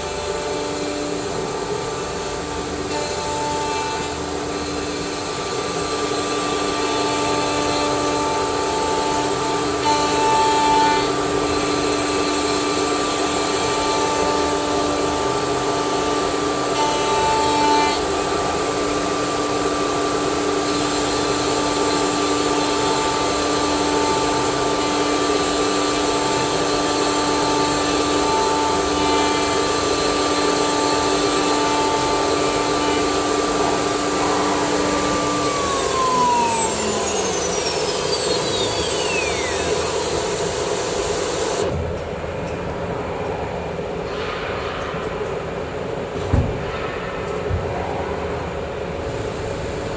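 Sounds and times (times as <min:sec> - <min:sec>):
router spindle machining wood: 0:00.0 - 0:41.7.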